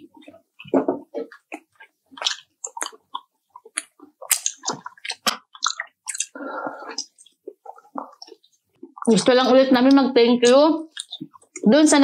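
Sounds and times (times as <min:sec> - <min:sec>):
chewing and crunching: 0:00.2 - 0:09.7, 0:10.4 - 0:11.7.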